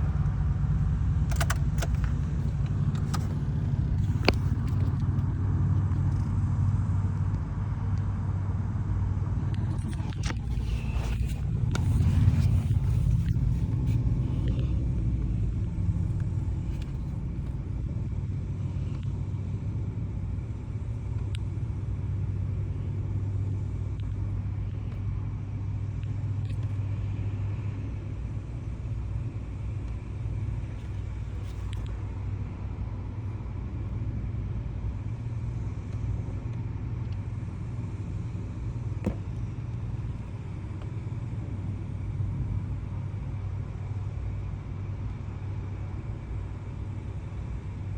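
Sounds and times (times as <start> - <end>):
vehicle engine rumbling: 0.0 - 47.9.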